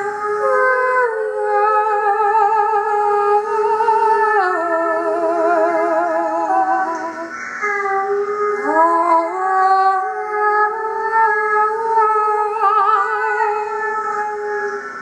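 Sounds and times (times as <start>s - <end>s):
voices singing held chord: 0.0s - 15.0s.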